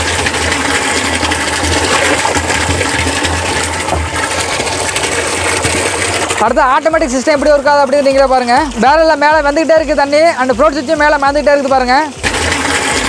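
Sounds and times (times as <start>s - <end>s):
water gushing into a tank: 0.0s - 13.0s.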